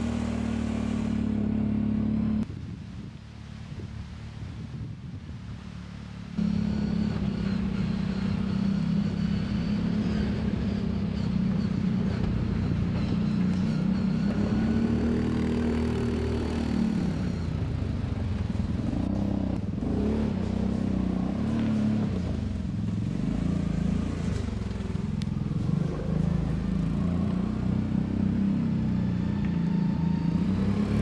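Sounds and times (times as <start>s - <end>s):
engine running: 0.0s - 4.5s, 5.3s - 31.0s.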